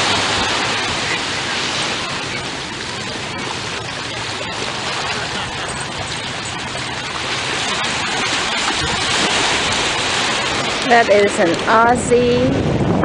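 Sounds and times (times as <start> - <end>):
small waves breaking: 0.0 - 12.6.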